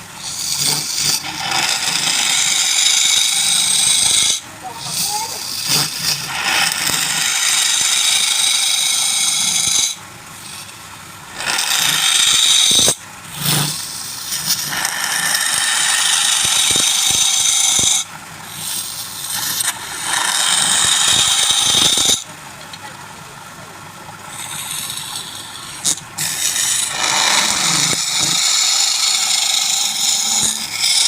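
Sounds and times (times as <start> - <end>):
lathe tool cutting wood: 0.0 - 22.3, 24.2 - 31.0.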